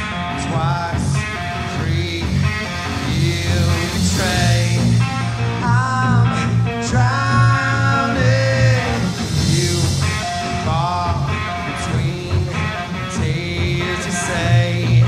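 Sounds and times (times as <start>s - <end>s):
electric guitar: 0.0s - 15.0s
pulsing bass: 0.0s - 15.0s.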